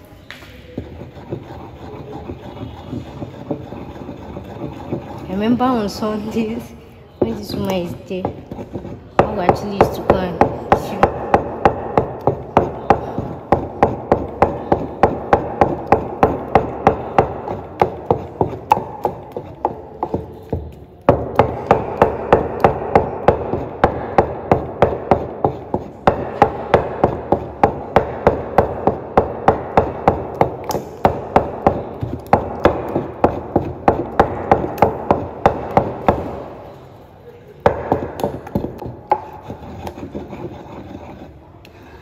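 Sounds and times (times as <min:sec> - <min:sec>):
pestle knocking in wooden mortar: 0:00.7 - 0:05.7, 0:07.2 - 0:36.7, 0:37.6 - 0:41.0.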